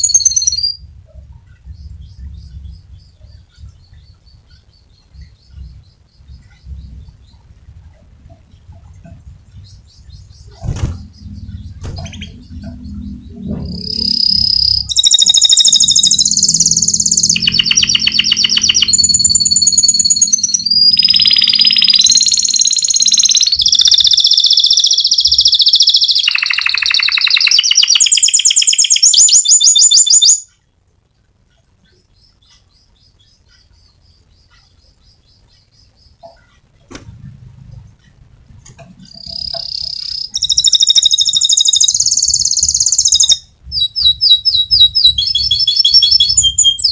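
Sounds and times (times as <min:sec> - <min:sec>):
canary singing trills: 0:00.0 - 0:36.8, 0:37.8 - 0:46.9.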